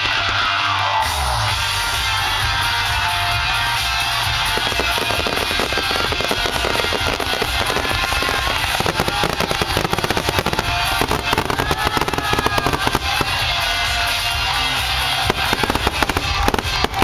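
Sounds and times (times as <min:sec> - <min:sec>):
fireworks crackling and popping: 0:00.0 - 0:17.0
music with steady beat: 0:00.0 - 0:17.0.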